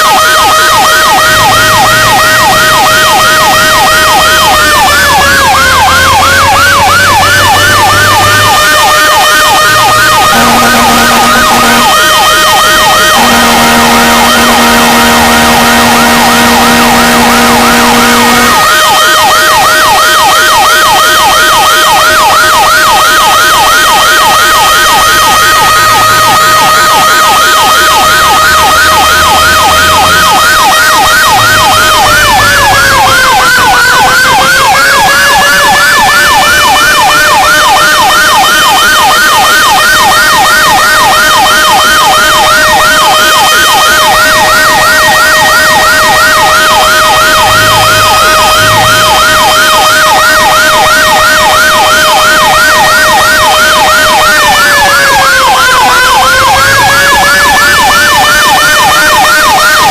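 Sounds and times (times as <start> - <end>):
fire truck siren yelp: 0.0 - 59.9
steady siren tone: 0.0 - 59.9.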